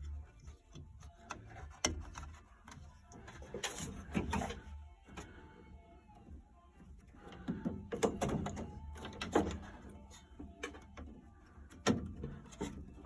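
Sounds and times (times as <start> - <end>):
hard parts knocking and scraping: 0.0 - 5.3, 7.0 - 13.0.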